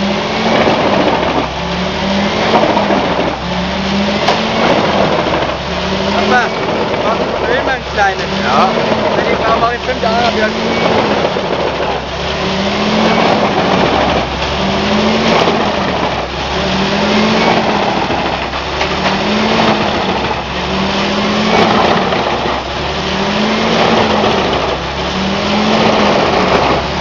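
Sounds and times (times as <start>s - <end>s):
wood chipper running: 0.0s - 27.0s.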